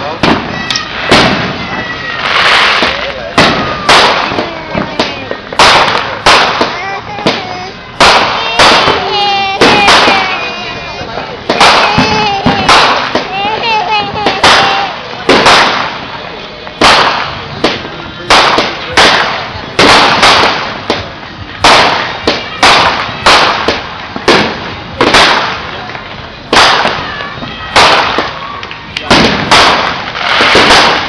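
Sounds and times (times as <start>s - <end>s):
fireworks bangs echoing: 0.0s - 31.0s.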